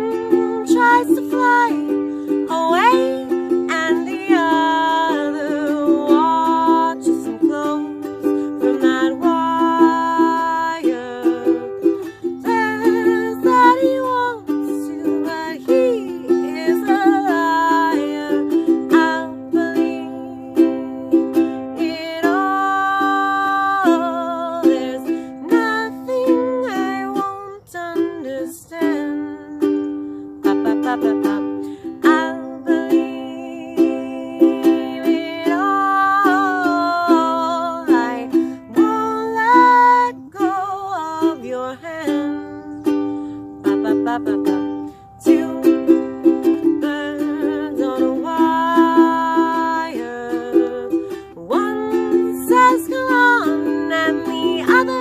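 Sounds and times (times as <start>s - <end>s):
ukulele strumming: 0.0s - 55.0s
woman singing: 0.0s - 55.0s.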